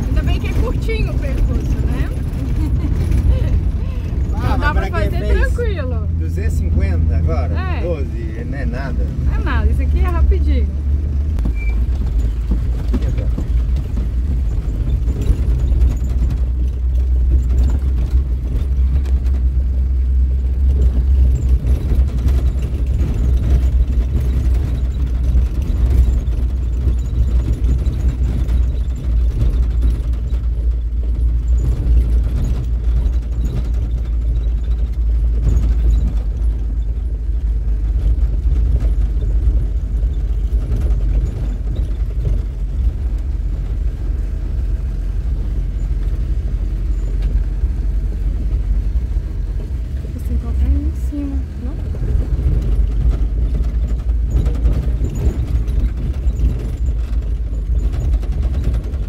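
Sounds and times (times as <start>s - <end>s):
vehicle interior rumble: 0.0s - 59.0s.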